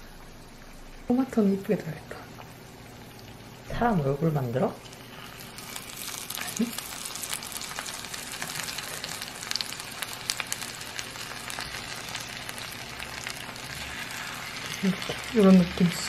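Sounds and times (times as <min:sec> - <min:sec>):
eggs sizzling in a frying pan: 0:00.0 - 0:16.0.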